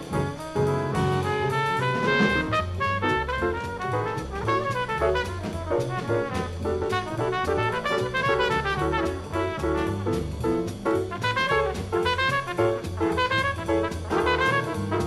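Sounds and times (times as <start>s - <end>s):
bass line: 0.0s - 15.0s
drums with cymbal strokes: 0.0s - 15.0s
piano: 0.0s - 15.0s
brass horn playing fast runs: 0.5s - 10.3s, 11.2s - 15.0s.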